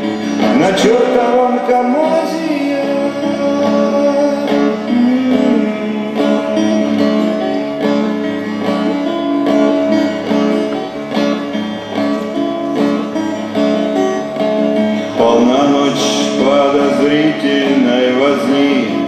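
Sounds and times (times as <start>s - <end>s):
guitars strumming chords: 0.0s - 19.0s.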